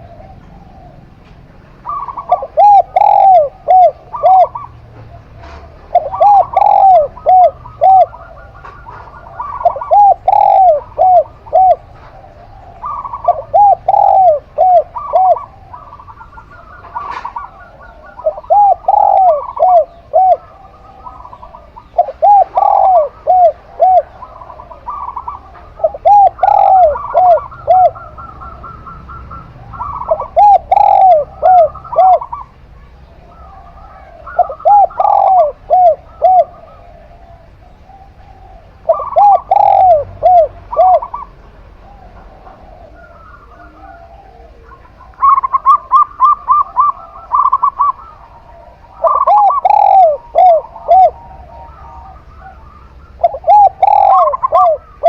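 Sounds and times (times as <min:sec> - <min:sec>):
doves cooing: 0:00.0 - 0:55.0
higher bird trill: 0:00.0 - 0:55.0.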